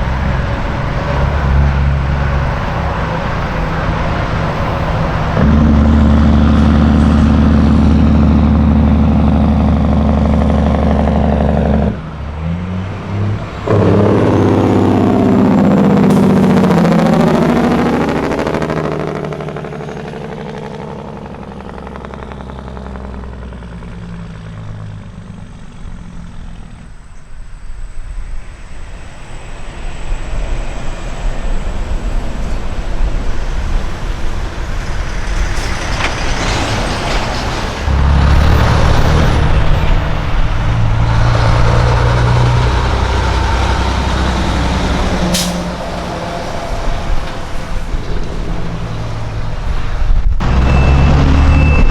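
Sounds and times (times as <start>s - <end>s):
diesel truck engines passing: 0.0s - 51.9s.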